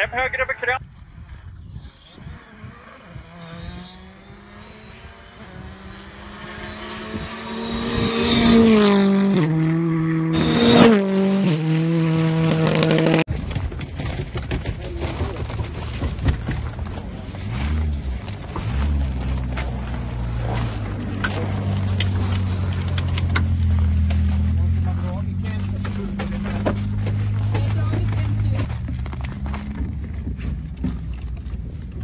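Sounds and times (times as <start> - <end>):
rally car engine revving: 1.7 - 13.3, 13.9 - 32.0.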